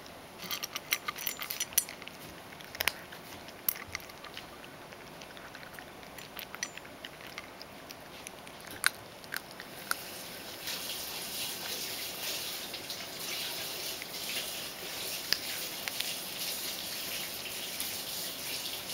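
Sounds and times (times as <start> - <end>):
cat crunching dry kibble: 0.0 - 18.6.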